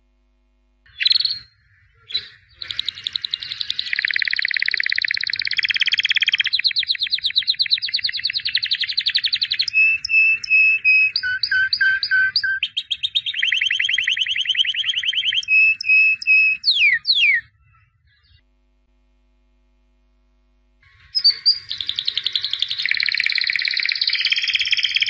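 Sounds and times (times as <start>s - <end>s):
canary singing: 0.9s - 18.4s, 20.9s - 25.0s.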